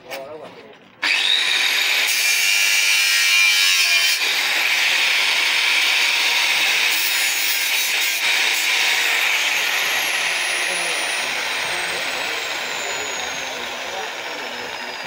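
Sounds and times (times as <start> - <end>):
angle grinder cutting steel: 1.0 - 15.0.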